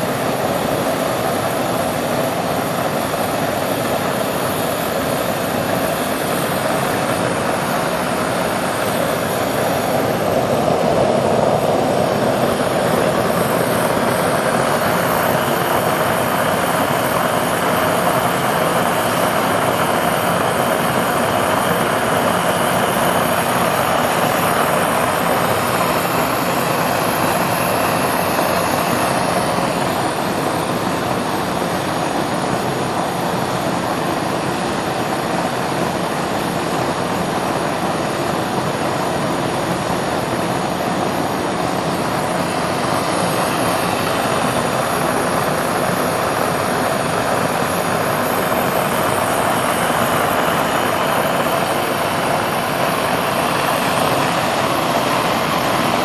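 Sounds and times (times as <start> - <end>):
gas burner flame rushing: 0.0 - 56.0.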